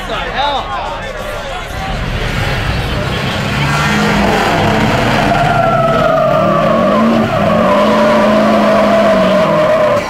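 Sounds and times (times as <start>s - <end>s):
engine revving hard: 1.7s - 10.0s
tires spinning and squealing: 1.9s - 10.0s.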